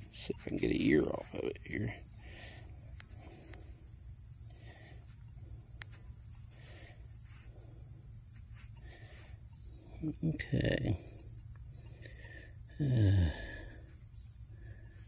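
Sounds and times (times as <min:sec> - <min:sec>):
crickets chirping: 0:00.0 - 0:15.0
faint rustles: 0:00.0 - 0:15.0.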